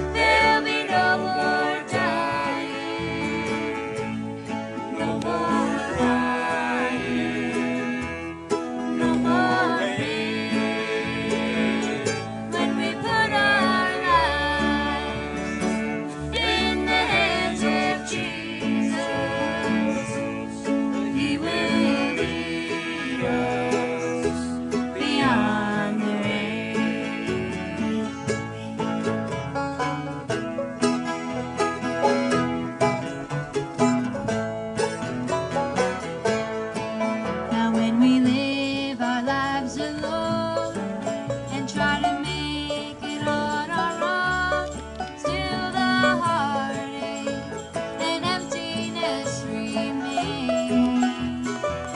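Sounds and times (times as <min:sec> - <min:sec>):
woman singing country song: 0:00.0 - 0:29.0, 0:36.8 - 0:51.9
acoustic guitar: 0:00.0 - 0:51.9
banjo: 0:00.0 - 0:51.9.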